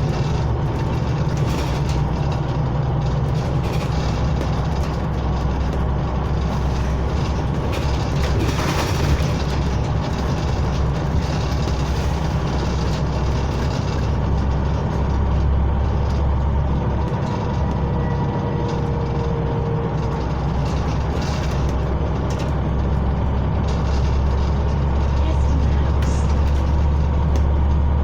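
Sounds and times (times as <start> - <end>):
bus diesel engine rumbling: 0.0 - 28.0
road and cabin noise: 0.0 - 28.0.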